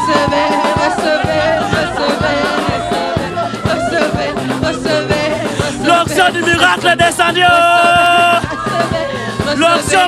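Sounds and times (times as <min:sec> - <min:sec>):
steady drum beat: 0:00.0 - 0:10.0
voices singing: 0:00.0 - 0:10.0
worship band music: 0:00.0 - 0:10.0.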